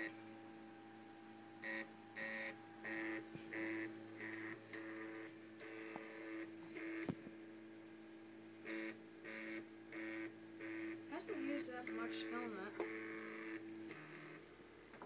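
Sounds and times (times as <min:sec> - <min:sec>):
stepper motors whining: 0:00.0 - 0:07.2, 0:08.6 - 0:15.0.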